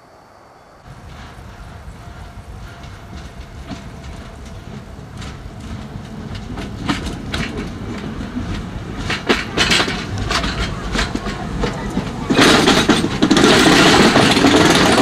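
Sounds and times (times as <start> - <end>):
train rumble: 0.0 - 15.0
wheels clattering on rails: 0.8 - 15.0.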